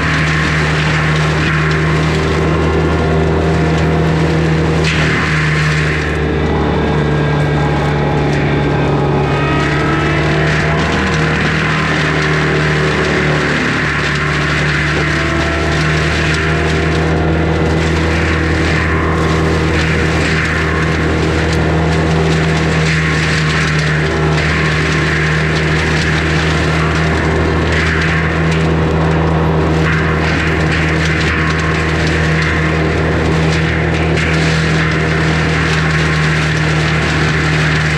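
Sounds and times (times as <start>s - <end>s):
diesel engine under load: 0.0s - 37.9s
mulcher grinding wood: 0.0s - 37.9s
whine shifting pitch: 0.0s - 37.9s.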